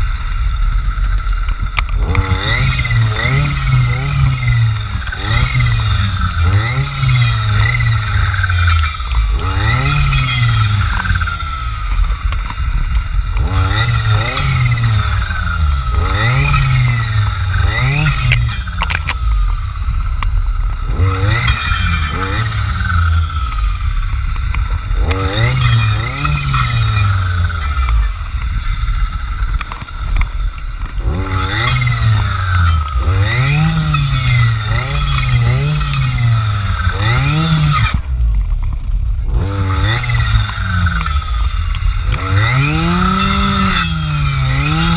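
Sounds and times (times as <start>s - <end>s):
clearing saw engine revving: 1.1s - 38.2s, 39.2s - 44.9s.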